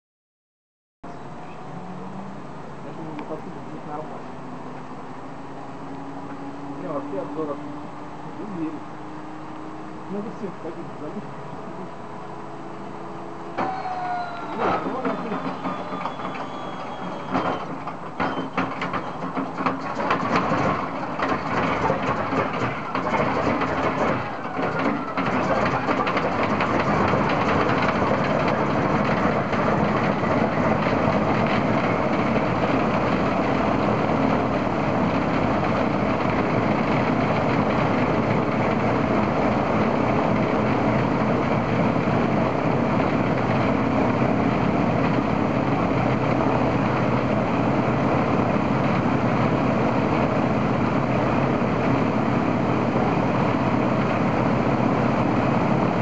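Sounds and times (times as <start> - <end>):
radial aircraft engine running: 1.0 - 56.0.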